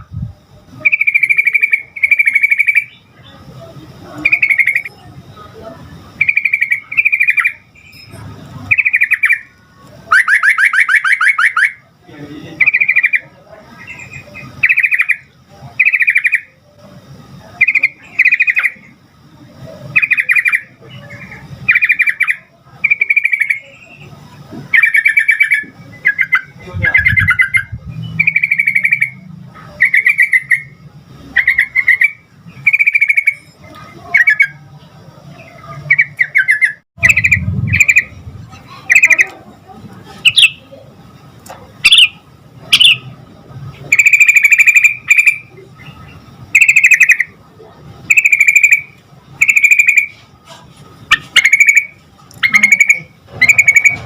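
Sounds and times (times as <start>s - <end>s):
bulbul singing: 0.0s - 50.3s, 51.1s - 54.0s.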